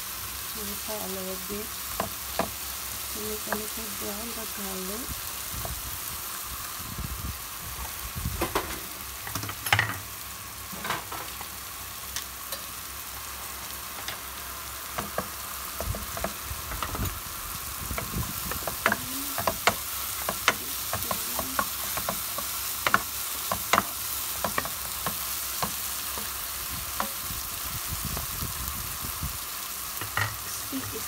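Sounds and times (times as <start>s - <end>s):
mushrooms sizzling in oil: 0.0s - 31.0s.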